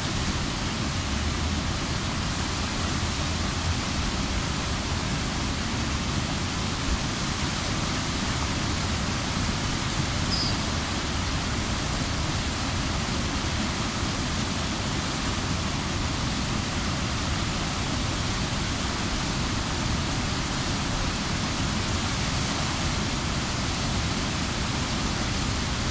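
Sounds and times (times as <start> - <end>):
river rushing over weir: 0.0 - 25.9.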